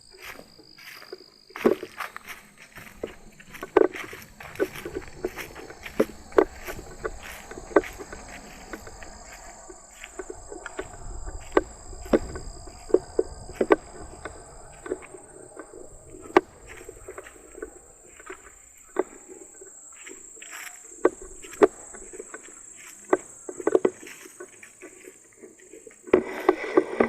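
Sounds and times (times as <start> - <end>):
footsteps on a trail: 0.0 - 27.0
high-pitched insect drone: 0.0 - 27.0.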